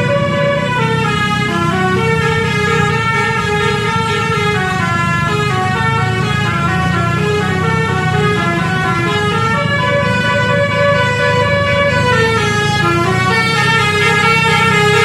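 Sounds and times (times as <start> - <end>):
bus horn playing a melody: 0.0 - 15.0.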